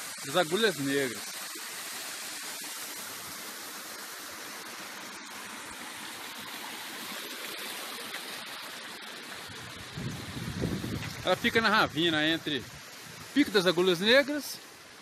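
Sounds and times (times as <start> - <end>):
waterfall cascading over rocks: 0.0 - 15.0.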